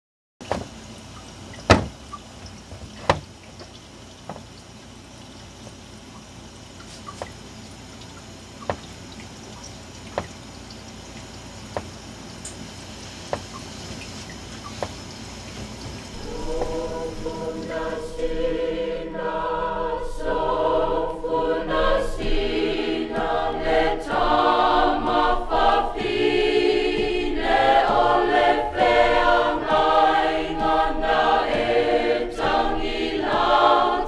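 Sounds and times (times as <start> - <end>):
steady hiss: 0.5 - 34.0.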